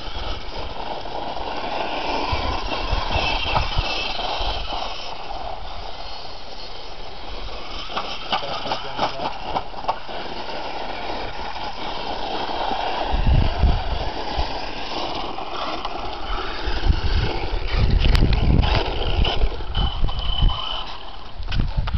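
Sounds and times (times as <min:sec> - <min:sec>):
electric motor whining: 0:00.0 - 0:21.9
tyres scrabbling on dirt: 0:00.0 - 0:21.9.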